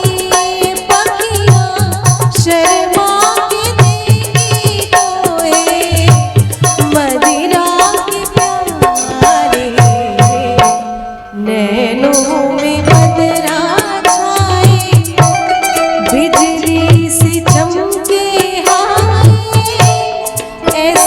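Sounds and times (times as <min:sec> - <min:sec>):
drums keeping a steady beat: 0:00.0 - 0:11.2, 0:12.1 - 0:21.0.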